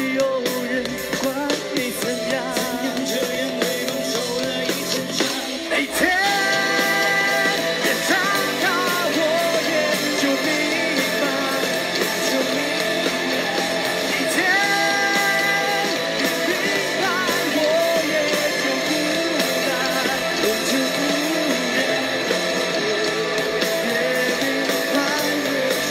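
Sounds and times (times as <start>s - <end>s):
electric guitar: 0.0s - 25.9s
man singing: 0.0s - 25.9s.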